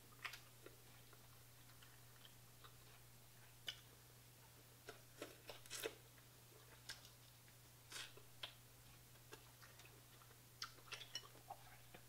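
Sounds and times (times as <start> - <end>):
low steady hum: 0.0 - 12.0
chewing: 0.1 - 12.0.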